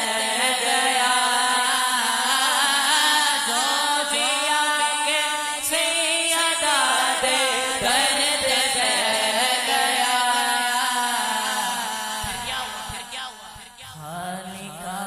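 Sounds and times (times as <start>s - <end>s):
wordless vocal chanting: 0.0s - 15.0s.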